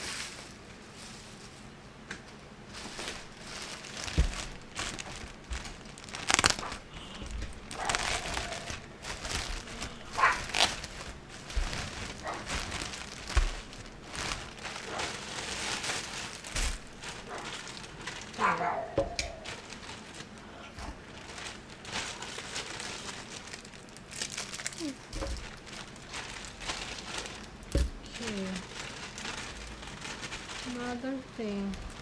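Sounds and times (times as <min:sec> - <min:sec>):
plastic packaging crinkling: 0:02.6 - 0:32.0.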